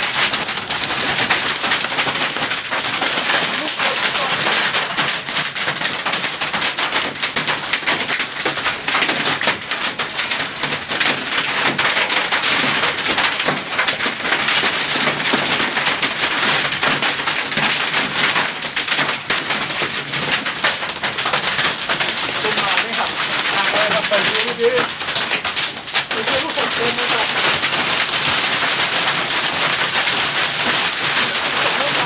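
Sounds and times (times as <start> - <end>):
heavy hail clattering: 0.0 - 32.0.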